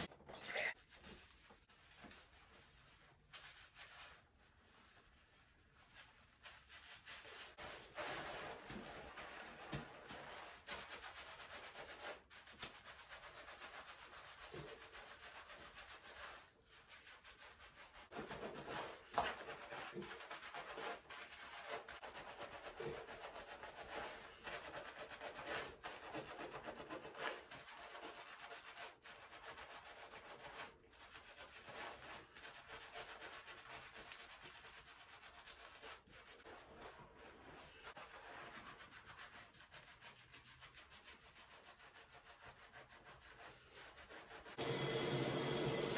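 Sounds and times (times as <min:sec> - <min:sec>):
hands scrubbing wet hair: 0:00.0 - 0:45.9.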